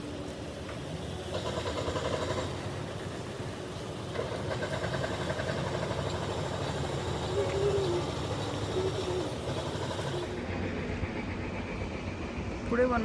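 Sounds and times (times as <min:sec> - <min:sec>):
vehicle engine running: 0:00.0 - 0:10.6
road rumble: 0:00.0 - 0:11.4.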